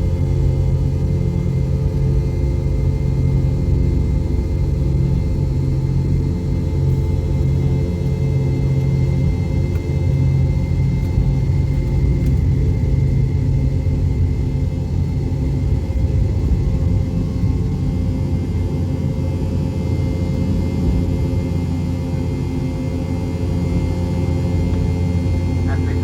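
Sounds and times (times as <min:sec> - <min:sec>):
airplane engine rumble in cabin: 0:00.0 - 0:26.0.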